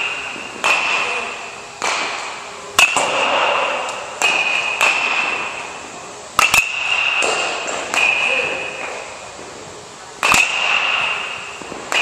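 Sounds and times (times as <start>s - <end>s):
bat hitting baseballs: 0.0s - 9.6s, 10.2s - 12.0s.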